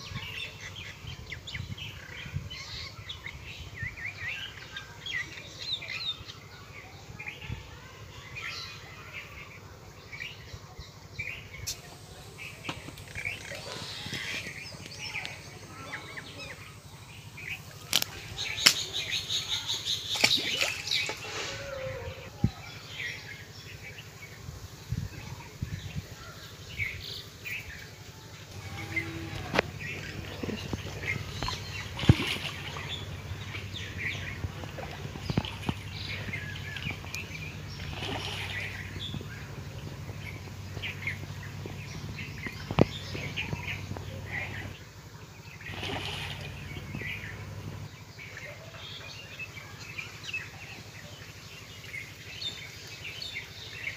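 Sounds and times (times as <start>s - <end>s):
faint voices: 0.0s - 53.8s
birds chirping: 0.0s - 53.9s
low steady hum: 9.4s - 53.9s.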